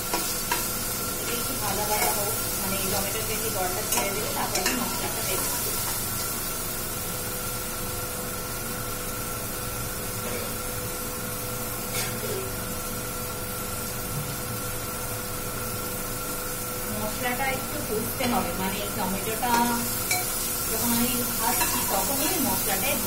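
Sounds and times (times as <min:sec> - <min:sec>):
masala sizzling in pot: 0:00.0 - 0:23.0.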